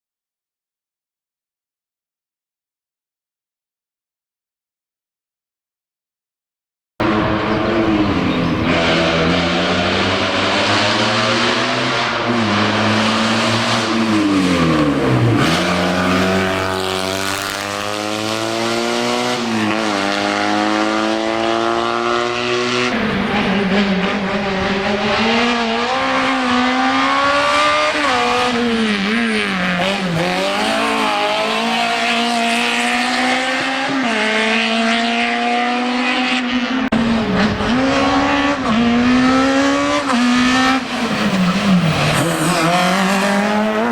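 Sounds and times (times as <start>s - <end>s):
race car engine accelerating: 7.0s - 43.9s.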